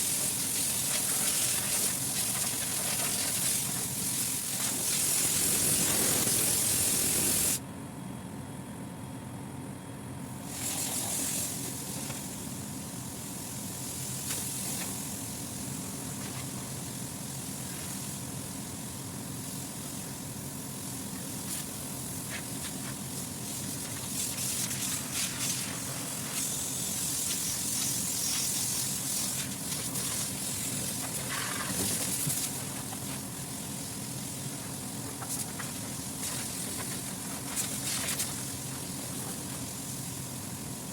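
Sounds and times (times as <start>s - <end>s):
loud hissing spray: 0.0s - 7.6s, 10.4s - 40.9s
condensing unit humming: 0.0s - 40.9s.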